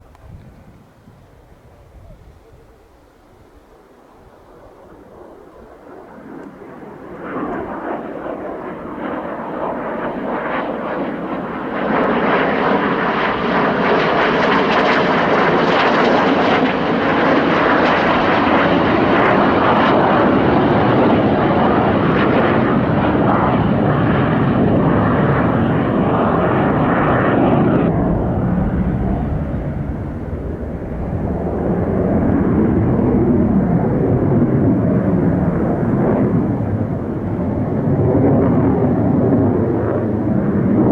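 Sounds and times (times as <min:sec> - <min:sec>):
deep jet rumble: 0:00.0 - 0:40.9
jet roar: 0:00.0 - 0:40.9.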